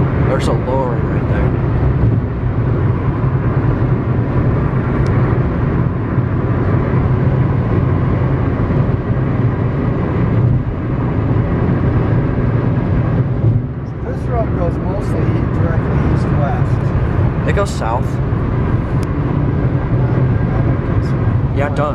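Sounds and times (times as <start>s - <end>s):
car road noise and engine hum: 0.0s - 21.9s.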